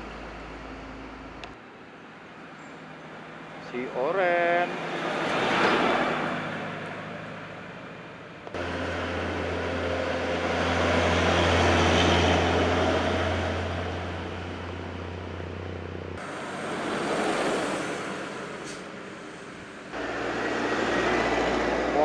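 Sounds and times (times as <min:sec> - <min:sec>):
vehicle passing: 0:03.3 - 0:22.0
heavy vehicle passing: 0:03.4 - 0:22.0.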